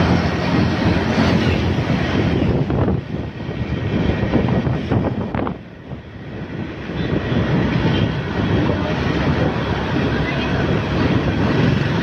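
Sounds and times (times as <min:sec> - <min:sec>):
motorcycle engine and tyres rumbling: 0:00.0 - 0:12.0
wind rushing over microphone: 0:00.0 - 0:12.0.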